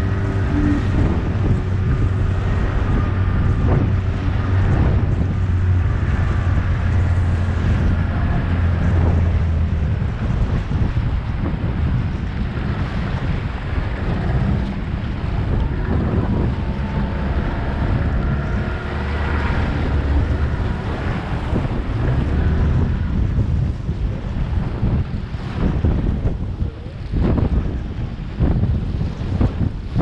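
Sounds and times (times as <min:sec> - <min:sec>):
faint boat engine: 0:00.0 - 0:30.0
water splashing against hull: 0:00.0 - 0:30.0
wind buffeting microphone: 0:00.0 - 0:30.0.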